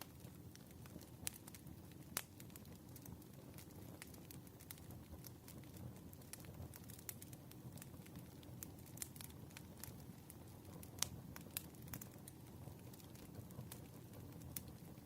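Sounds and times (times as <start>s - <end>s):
sharp pops of burning wood: 0.0s - 14.9s
low rumble of flames: 0.0s - 15.0s
wood fire crackling: 0.0s - 15.0s.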